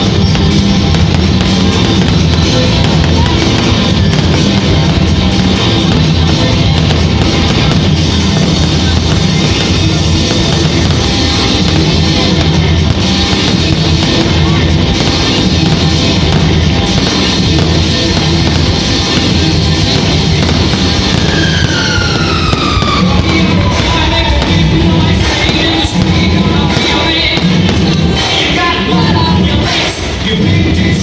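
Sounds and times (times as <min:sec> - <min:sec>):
loud rock music: 0:00.0 - 0:31.0.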